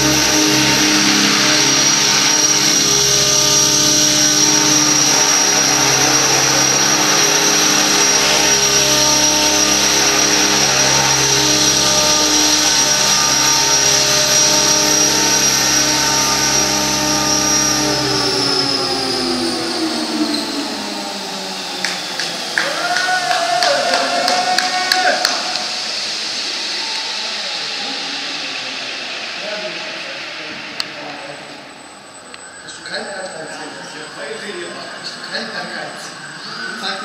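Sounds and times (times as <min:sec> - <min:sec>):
high-pitched drivetrain whine: 0:00.0 - 0:37.0
rotors whirring: 0:00.0 - 0:37.0.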